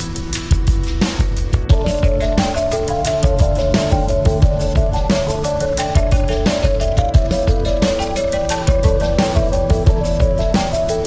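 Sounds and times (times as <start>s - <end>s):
background music with steady beat: 0.0s - 11.0s
melody notes: 1.6s - 11.0s.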